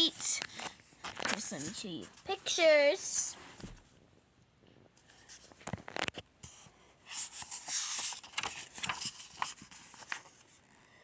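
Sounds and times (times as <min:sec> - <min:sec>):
paper rustling: 0:00.0 - 0:03.8, 0:05.0 - 0:11.0.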